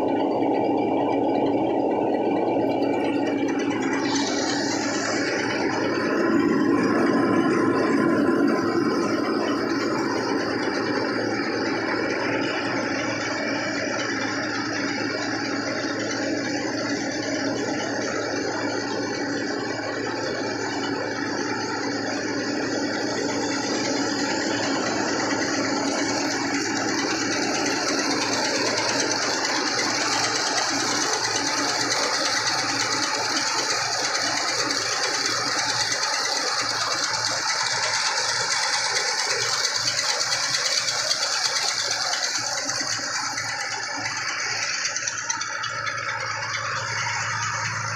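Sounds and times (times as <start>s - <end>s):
rice mill rattling: 0.0s - 47.9s.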